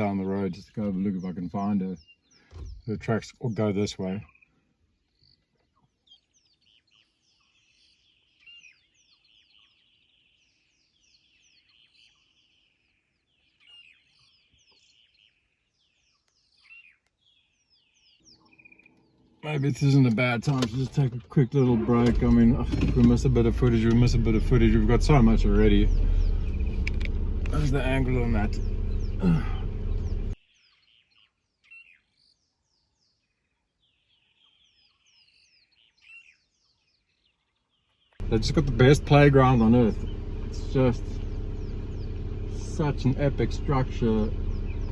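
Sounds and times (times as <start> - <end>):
birds chirping and twittering: 0.0 - 44.9.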